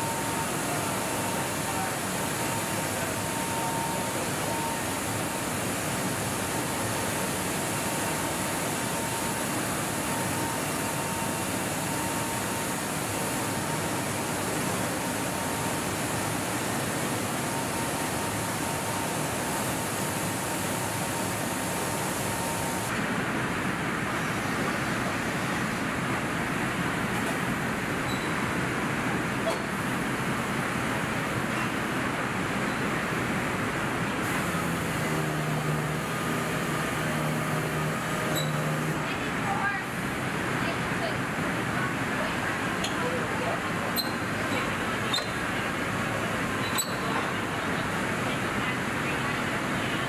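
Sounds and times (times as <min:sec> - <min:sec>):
rushing air and spray: 0:00.0 - 0:46.6.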